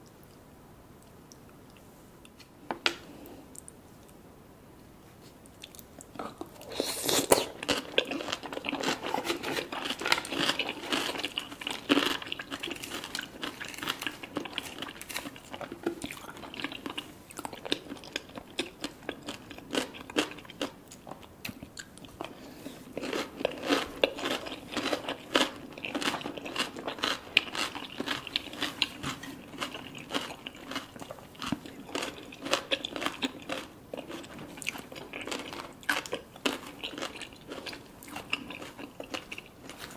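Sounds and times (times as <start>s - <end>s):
chewing crunchy food: 5.4s - 39.9s.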